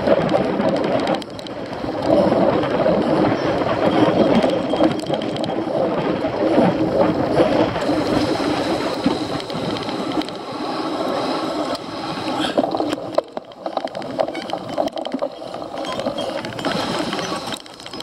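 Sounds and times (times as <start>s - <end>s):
bike chain and frame rattling: 0.0s - 18.0s
bike tyres rumbling on rough ground: 0.0s - 18.0s.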